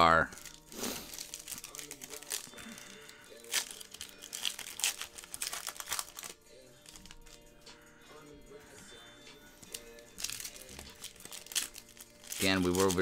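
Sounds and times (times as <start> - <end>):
foil wrapper crinkling and tearing: 0.2 - 7.4, 9.7 - 13.0.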